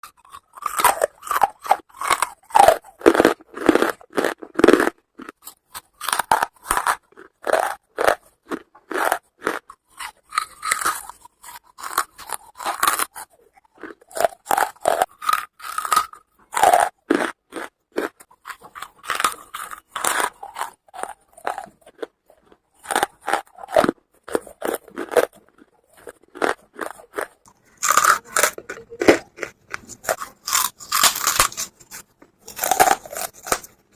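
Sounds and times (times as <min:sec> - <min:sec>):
charcoal being chewed: 0:00.0 - 0:33.9.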